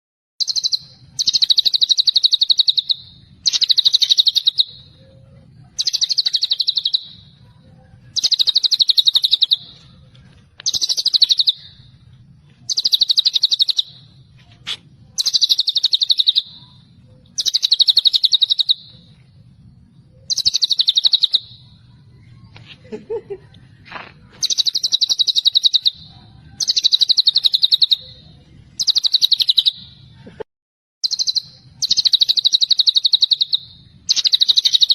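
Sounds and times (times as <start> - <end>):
bird singing rattling trill: 0.4 - 12.0, 12.6 - 14.2, 15.0 - 23.4, 24.3 - 30.1, 31.0 - 34.9.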